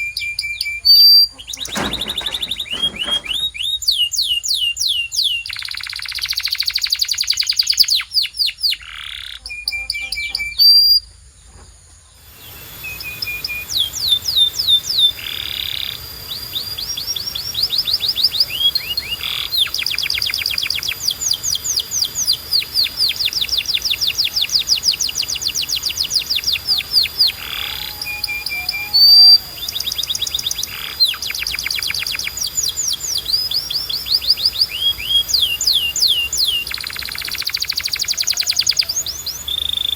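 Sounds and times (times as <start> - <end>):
canary singing trills: 0.0 - 11.1, 12.2 - 39.9.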